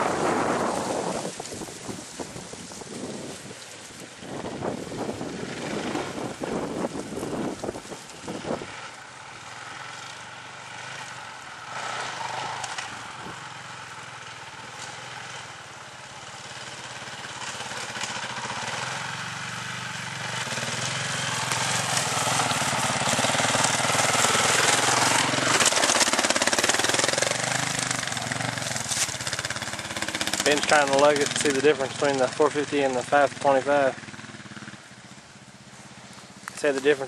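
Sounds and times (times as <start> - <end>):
dirt bike engine at low revs: 0.0 - 37.0.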